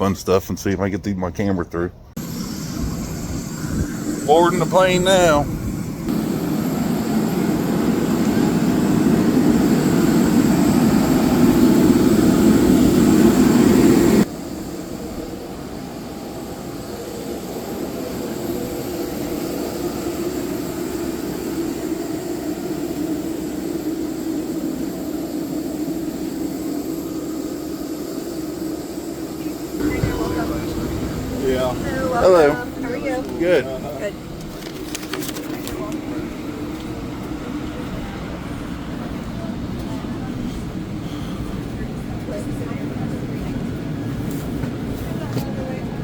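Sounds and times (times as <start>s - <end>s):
airliner engine drone: 1.9s - 46.0s
airliner engine rush: 2.1s - 46.0s.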